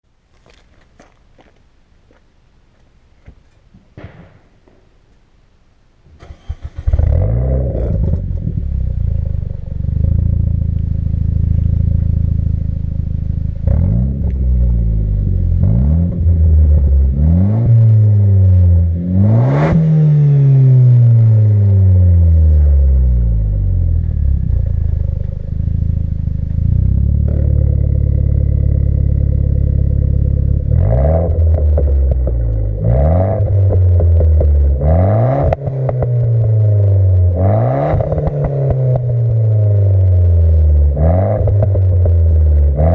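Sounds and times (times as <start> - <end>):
car engine starting and revving: 6.2 - 42.9.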